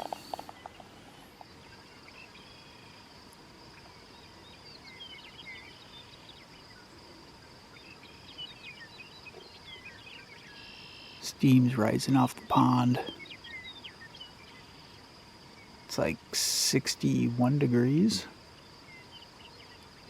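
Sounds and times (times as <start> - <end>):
faint birds chirping: 0.0 - 20.0
high-pitched insect trill: 0.0 - 20.0.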